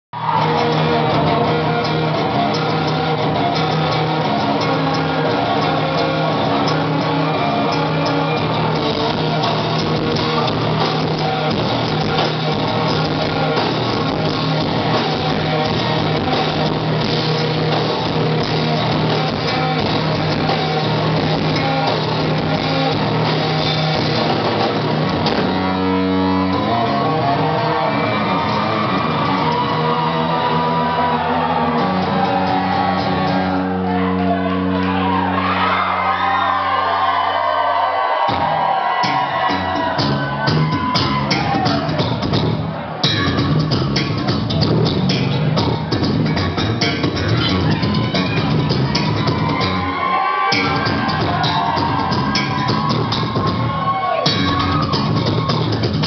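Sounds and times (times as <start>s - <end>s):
drum kit playing: 0.2s - 56.0s
electric bass guitar solo: 0.2s - 56.0s.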